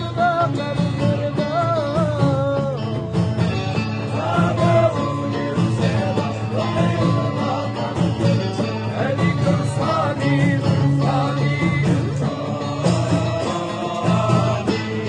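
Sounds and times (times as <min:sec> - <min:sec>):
song with singing and beat: 0:00.0 - 0:15.0.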